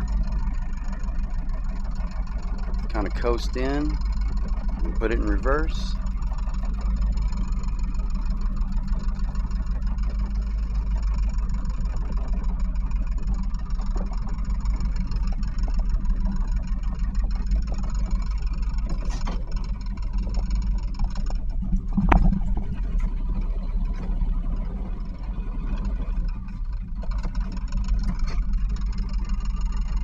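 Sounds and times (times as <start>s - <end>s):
boat engine running: 0.0s - 30.0s.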